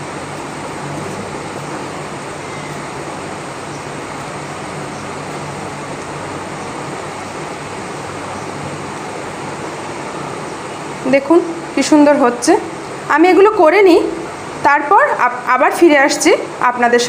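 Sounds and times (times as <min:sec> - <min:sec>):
steady rushing noise: 0:00.0 - 0:15.4.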